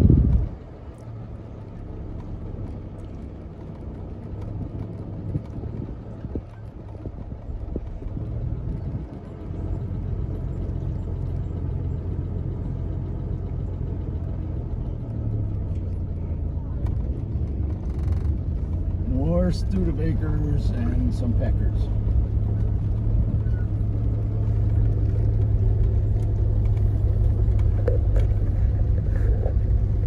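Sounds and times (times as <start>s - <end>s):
car engine humming: 0.0s - 30.0s.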